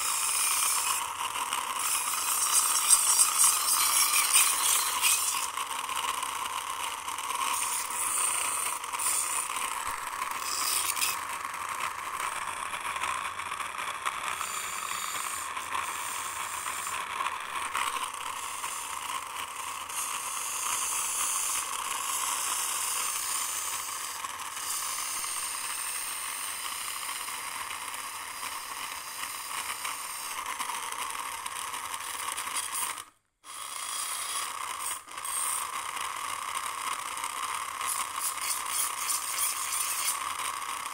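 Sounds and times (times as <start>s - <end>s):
toy car motor whirring: 0.0s - 40.9s.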